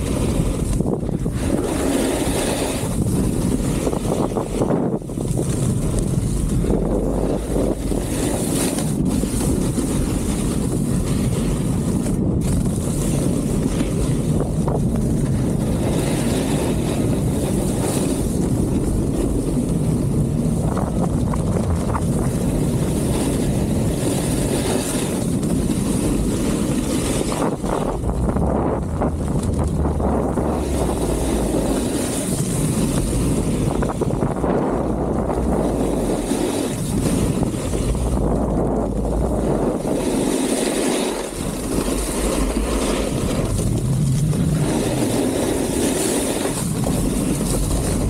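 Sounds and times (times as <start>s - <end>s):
snowboard sliding on snow: 0.0s - 48.0s
wind buffeting microphone: 0.0s - 48.0s.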